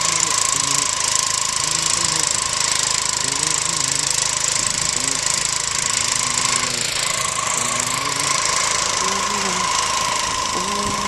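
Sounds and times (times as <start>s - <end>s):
faint wavering tones: 0.0s - 11.0s
small engine running: 0.0s - 11.0s.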